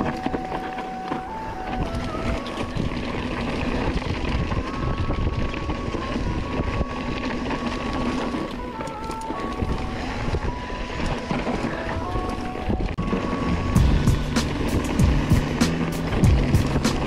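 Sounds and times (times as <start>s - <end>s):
mountain bike rattling: 0.0s - 17.0s
slow background music: 0.0s - 17.0s
wind buffeting microphone: 0.0s - 17.0s.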